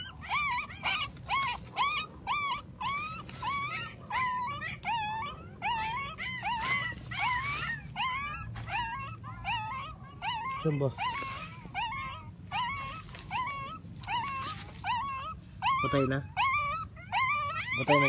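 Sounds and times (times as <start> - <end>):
puppies whimpering: 0.0 - 18.0.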